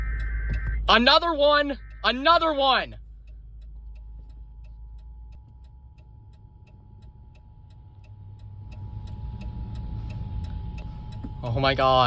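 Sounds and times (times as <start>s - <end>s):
low rumble: 0.0s - 12.0s
rapid even ticking: 0.0s - 12.0s.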